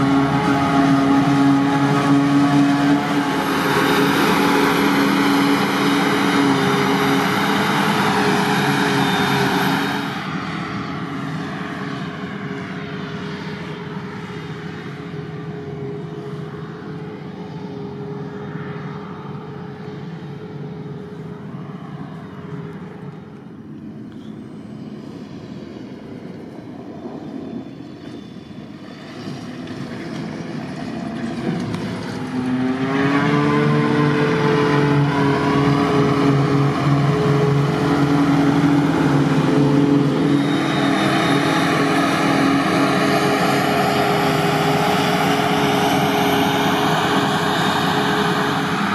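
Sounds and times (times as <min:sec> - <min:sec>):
forage harvester engine droning: 0:00.0 - 0:48.9
tractor engine: 0:00.0 - 0:48.9.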